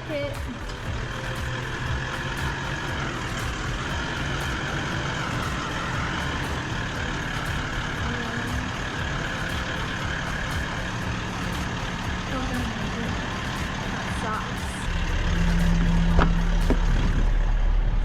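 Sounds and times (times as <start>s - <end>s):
road noise: 0.0s - 18.0s
vehicle engine: 0.0s - 18.0s.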